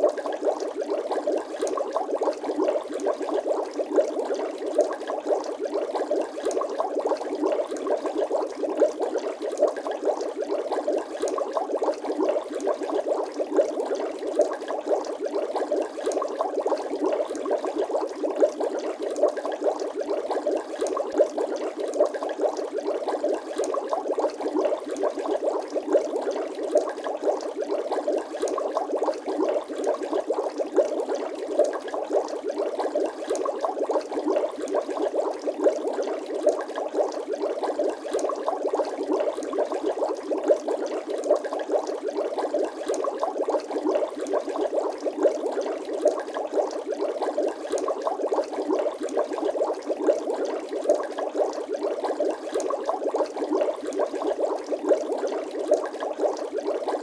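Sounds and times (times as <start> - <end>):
water bubbling: 0.0 - 57.0.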